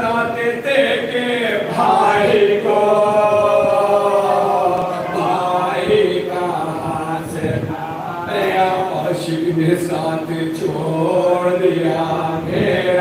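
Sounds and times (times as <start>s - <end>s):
men chanting: 0.0s - 13.0s.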